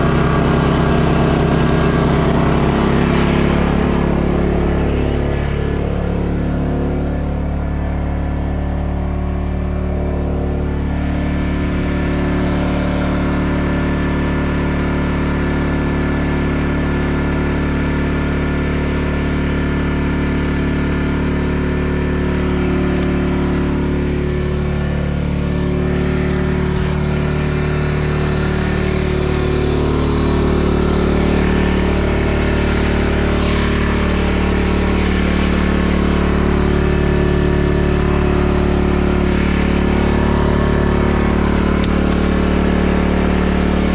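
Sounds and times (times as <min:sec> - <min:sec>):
snowblower engine running: 0:00.0 - 0:43.9.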